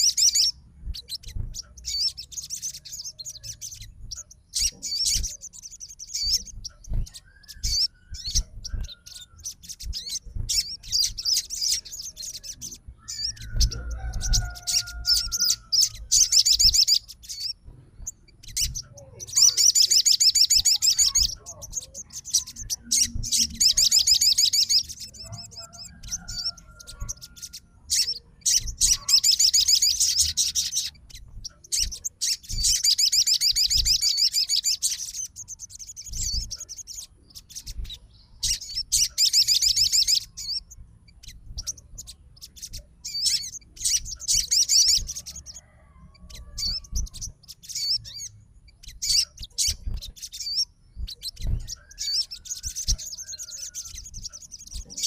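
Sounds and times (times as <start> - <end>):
songbird trilling: 0.0 - 55.0.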